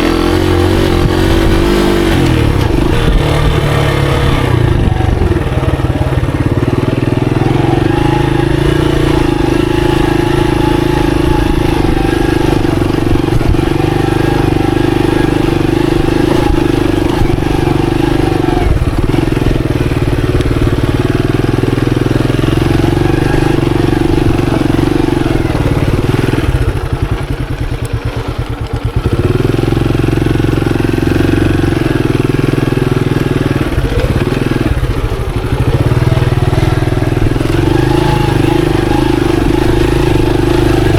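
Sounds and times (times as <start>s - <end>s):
motorcycle engine pulling: 0.0s - 40.9s.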